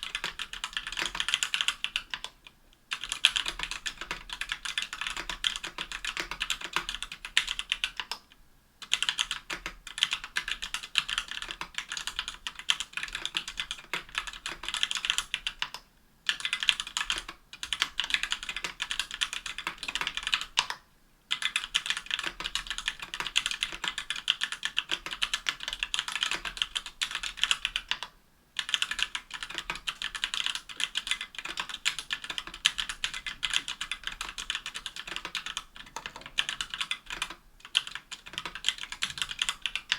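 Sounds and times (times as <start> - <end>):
fast keyboard typing: 0.0 - 8.2, 8.8 - 39.9.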